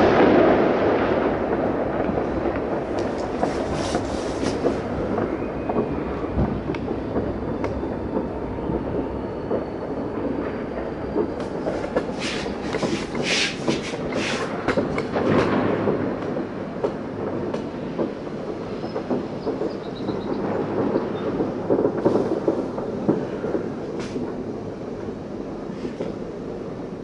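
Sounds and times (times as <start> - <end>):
distant fireworks bangs and crackles: 0.0 - 27.0
sharp fireworks cracks: 0.0 - 27.0.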